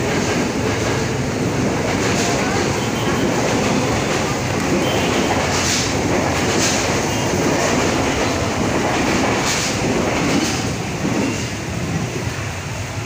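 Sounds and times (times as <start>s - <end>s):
train wheel clacks: 0.0s - 12.6s
electric train rumbling past: 0.0s - 13.0s.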